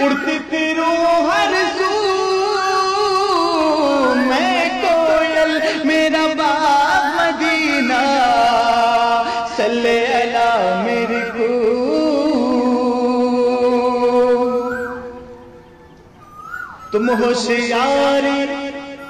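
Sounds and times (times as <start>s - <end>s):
man singing unaccompanied: 0.0s - 15.5s, 16.9s - 19.0s.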